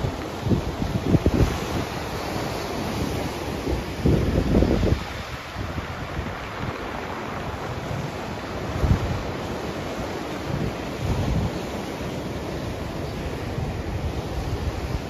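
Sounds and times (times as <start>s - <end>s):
surf breaking over rocks: 0.0s - 15.0s
wind blowing on microphone: 0.0s - 15.0s.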